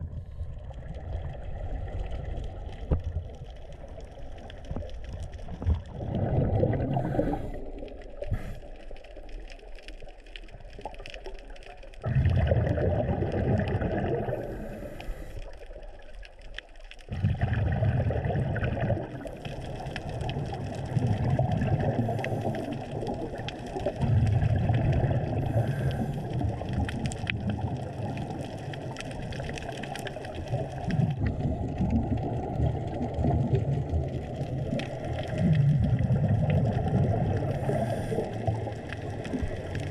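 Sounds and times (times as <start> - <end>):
scuba bubbles gurgling underwater: 0.0 - 39.9.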